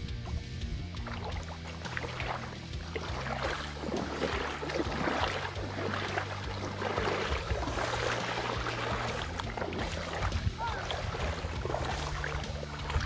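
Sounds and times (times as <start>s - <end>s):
feet splashing through water: 0.2s - 13.0s.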